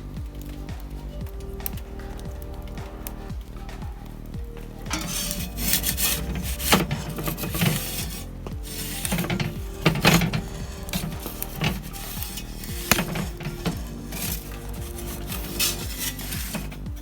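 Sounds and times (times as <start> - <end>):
soft background music: 0.0 - 17.0
wood and metal scraping: 0.0 - 17.0.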